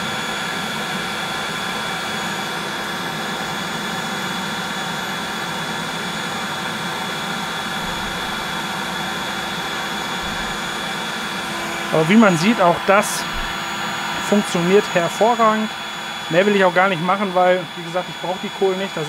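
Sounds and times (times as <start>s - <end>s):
motor whine: 0.0s - 19.0s.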